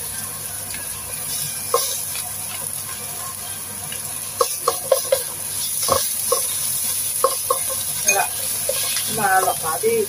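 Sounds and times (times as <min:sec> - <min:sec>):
food sizzling in a wok: 0:00.0 - 0:10.0
spatula scraping a pan: 0:01.0 - 0:10.0.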